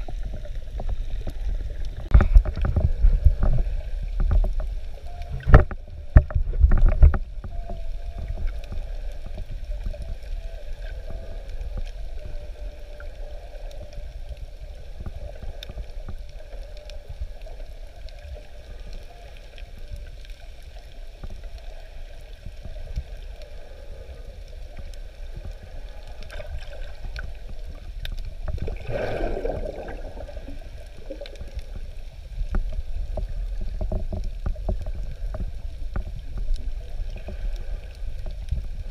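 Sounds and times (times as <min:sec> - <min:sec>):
underwater rumble of moving water: 0:00.0 - 0:38.9
water gurgle: 0:00.0 - 0:38.9.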